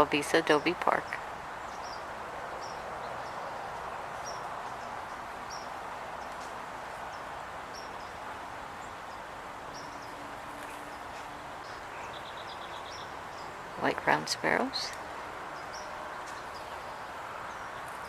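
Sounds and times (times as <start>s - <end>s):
outdoor background hiss: 0.0s - 18.0s
sparrows chirping: 0.0s - 18.0s.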